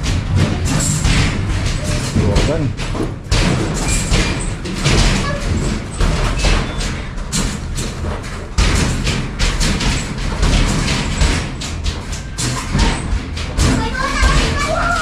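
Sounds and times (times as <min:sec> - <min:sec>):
loud thuds and knocks: 0:00.0 - 0:15.0.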